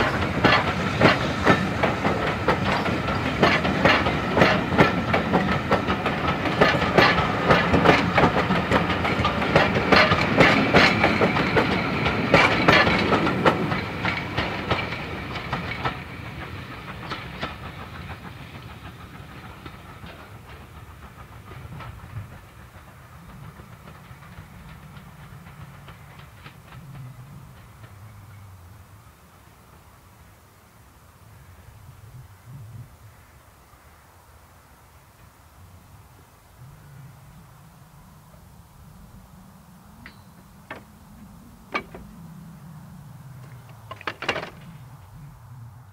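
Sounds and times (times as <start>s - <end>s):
steam train rumbling: 0.0s - 45.9s.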